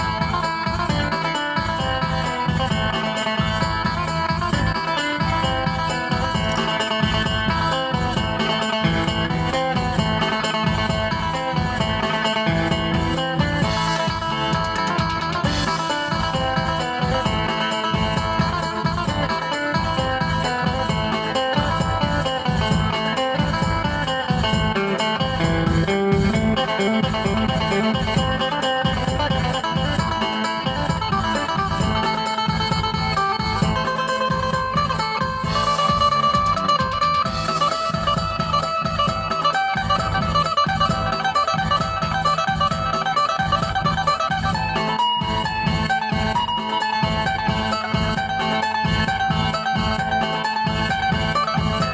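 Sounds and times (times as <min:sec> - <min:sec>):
plucked lute melody: 0:00.0 - 0:51.9
steady bass beat: 0:00.0 - 0:51.9.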